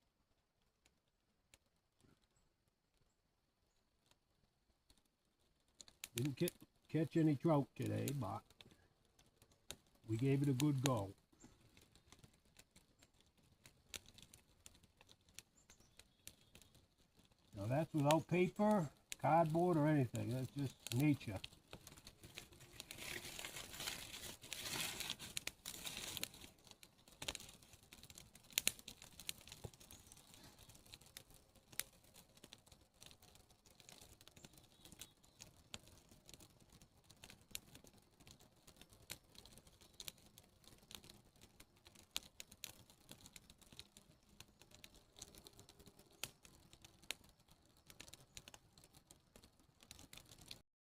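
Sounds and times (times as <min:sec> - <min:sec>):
campfire crackling and popping: 0:00.0 - 0:50.6.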